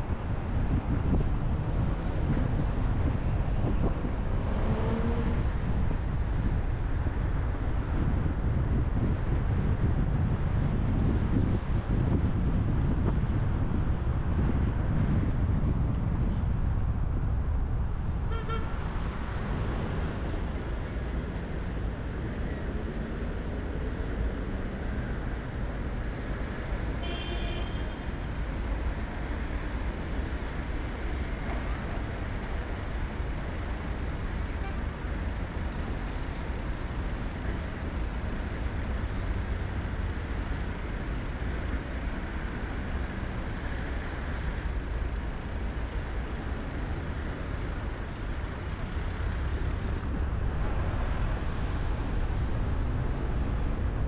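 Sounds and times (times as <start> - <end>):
car road noise: 0.0 - 54.0.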